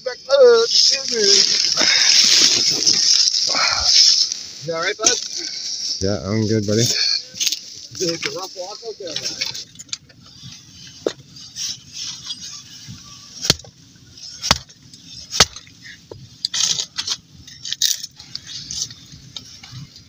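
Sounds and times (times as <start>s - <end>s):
scraping and rustling: 0.3s - 20.0s.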